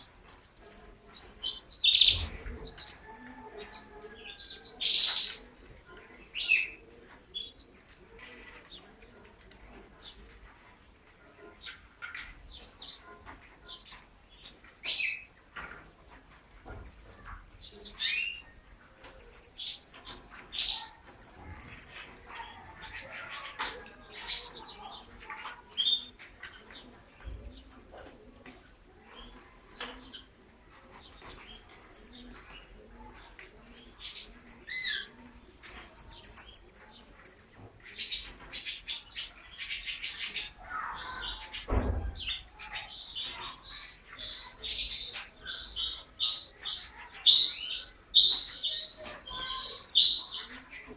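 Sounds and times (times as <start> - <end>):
canary singing: 0.0 - 50.9.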